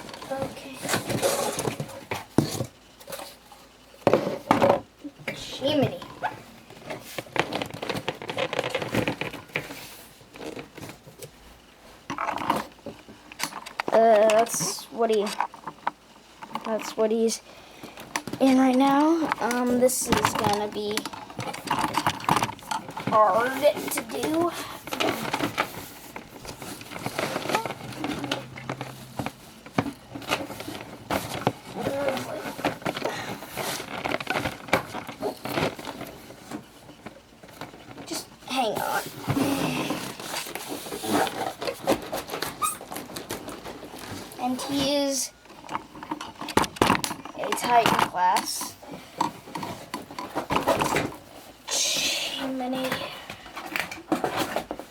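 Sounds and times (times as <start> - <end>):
cardboard and plastic rustling: 0.0 - 54.9.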